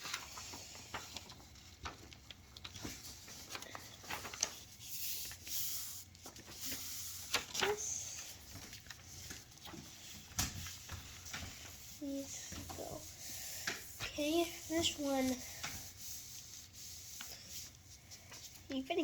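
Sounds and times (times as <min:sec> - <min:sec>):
paper and cardboard rubbing: 0:00.0 - 0:19.0
rustling scrape: 0:02.8 - 0:18.7.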